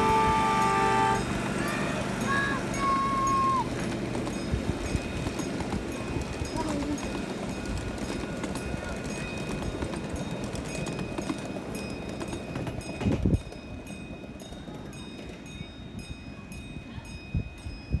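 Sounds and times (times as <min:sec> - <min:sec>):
miniature steam locomotive clatter: 0:00.0 - 0:18.0.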